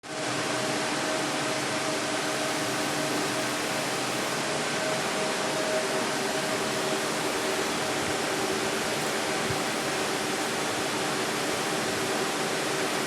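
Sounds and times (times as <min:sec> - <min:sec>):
steady rushing hiss: 0:00.8 - 0:13.0.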